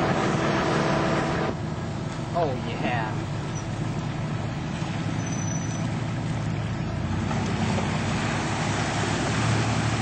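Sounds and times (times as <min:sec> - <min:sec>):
suv engine running: 0:00.0 - 0:10.0
tyres splashing through water: 0:00.0 - 0:10.0.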